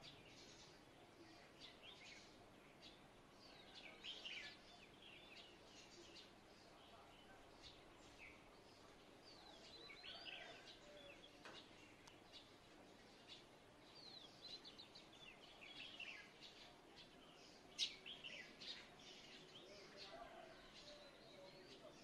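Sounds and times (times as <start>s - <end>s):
faint songbirds singing: 0.0s - 22.0s.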